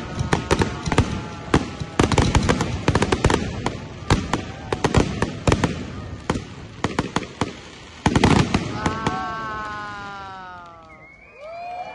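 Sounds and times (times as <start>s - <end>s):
fireworks bangs and crackles: 0.0s - 11.8s.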